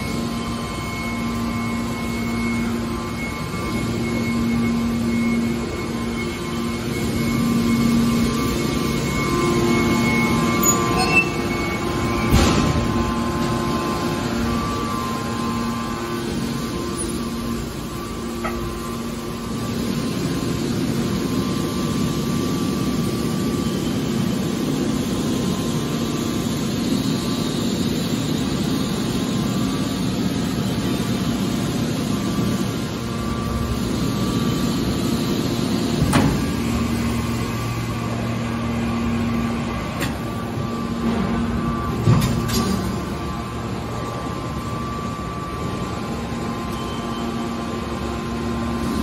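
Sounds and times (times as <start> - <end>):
hydraulic pump hum and whir: 0.0 - 49.0.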